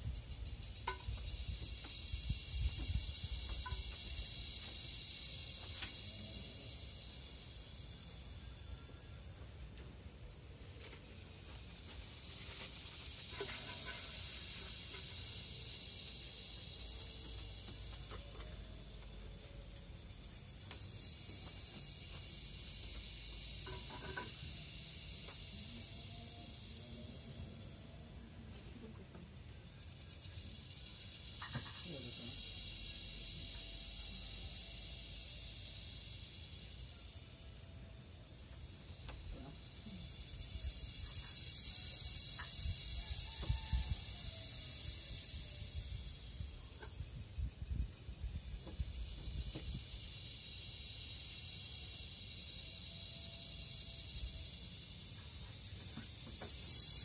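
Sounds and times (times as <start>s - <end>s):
cicada buzzing: 0.0s - 57.0s.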